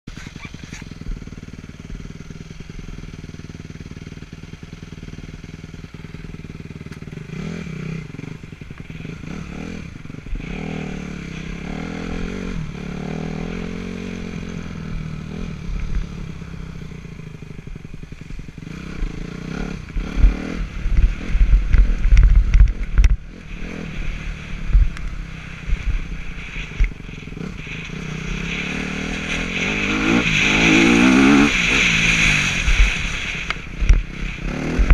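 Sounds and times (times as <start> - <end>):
motorbike engine revving: 0.1 - 34.9.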